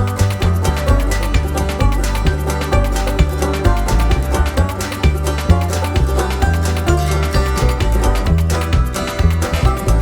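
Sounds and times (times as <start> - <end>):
music with heavy bass and fast beat: 0.0 - 10.0.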